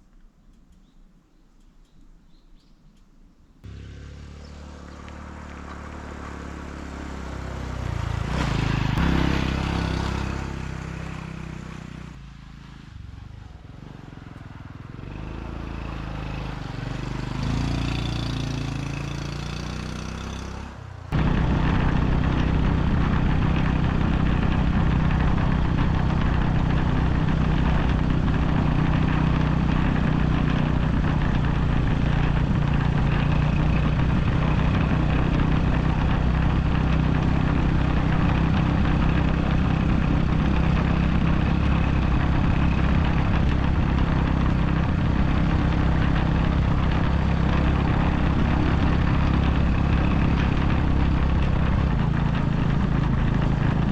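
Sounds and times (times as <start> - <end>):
motorcycle engine accelerating: 3.6 - 53.9.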